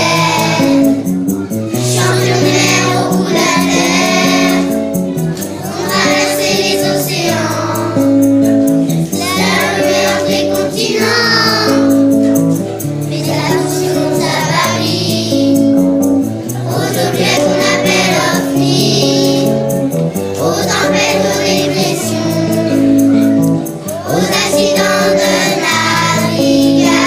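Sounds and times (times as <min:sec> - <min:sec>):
children's choir singing: 0:00.0 - 0:01.1, 0:01.7 - 0:12.2, 0:13.0 - 0:23.2, 0:23.9 - 0:27.0
acoustic guitar: 0:00.0 - 0:27.0.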